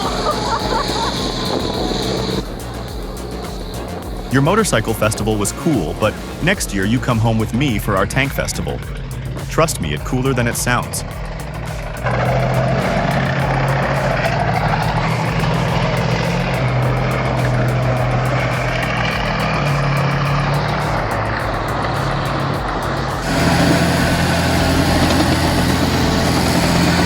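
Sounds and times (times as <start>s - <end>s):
background music: 0.0s - 27.0s
heavy vehicle engine running: 0.0s - 27.0s.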